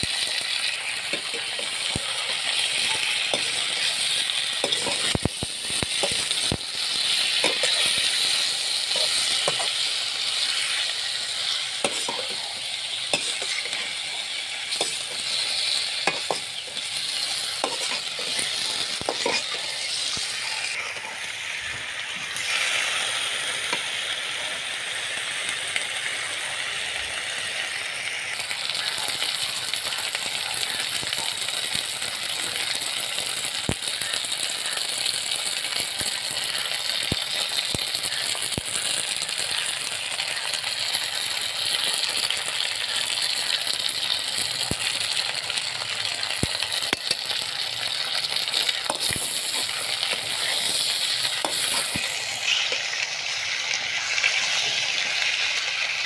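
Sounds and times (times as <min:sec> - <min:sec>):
potato slices sizzling in pan: 0:00.0 - 0:56.0.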